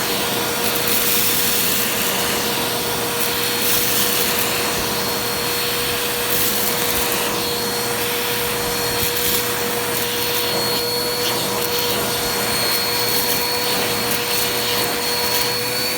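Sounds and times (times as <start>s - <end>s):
vacuum cleaner whining and hissing: 0.0s - 15.9s.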